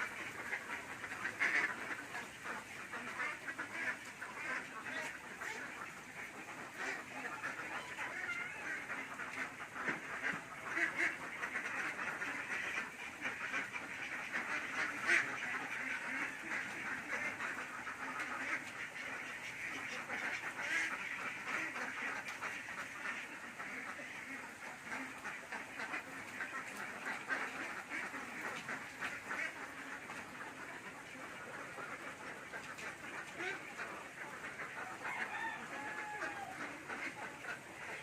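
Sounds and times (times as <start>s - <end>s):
ducks quacking: 0.0s - 38.0s.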